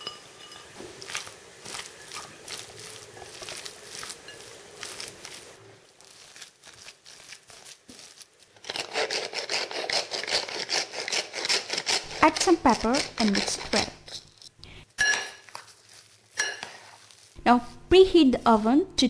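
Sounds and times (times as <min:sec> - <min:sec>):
spoon scraping in a bowl: 0:00.0 - 0:05.5, 0:06.2 - 0:17.1.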